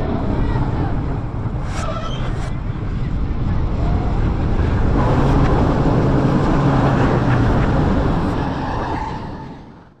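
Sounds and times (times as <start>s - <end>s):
roller coaster wheels rumbling: 0.0s - 10.0s
wind: 0.0s - 10.0s.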